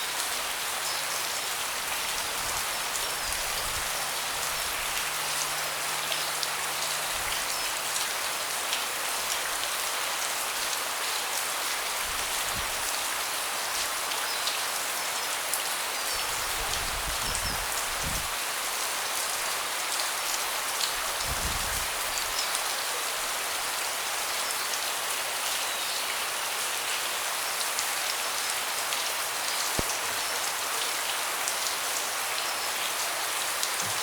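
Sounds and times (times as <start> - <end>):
rain falling on a deck: 0.0 - 34.0.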